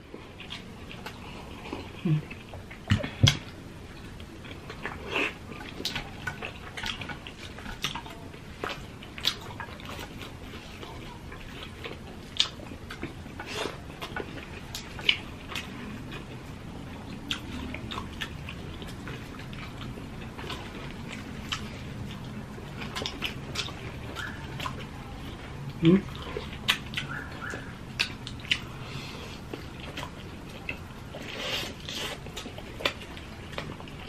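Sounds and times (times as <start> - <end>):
wet chewing and mouth sounds: 0.0 - 34.0.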